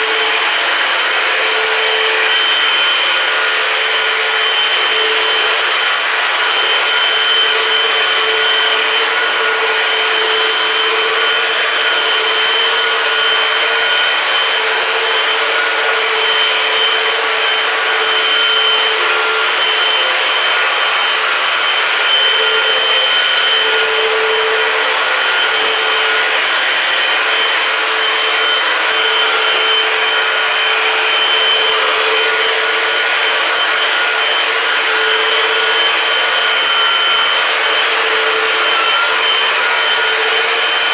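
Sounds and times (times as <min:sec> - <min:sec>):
upright vacuum cleaner running: 0:00.0 - 0:40.9.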